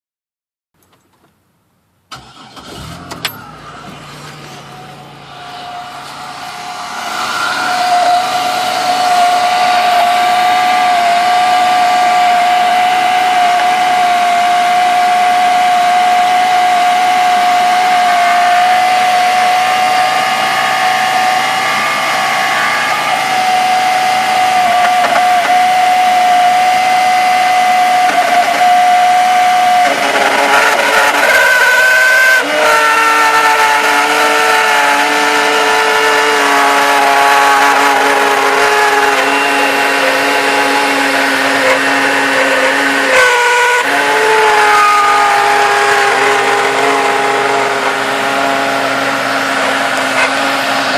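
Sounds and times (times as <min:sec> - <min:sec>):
car engine grinding whine: 0:00.8 - 0:50.9.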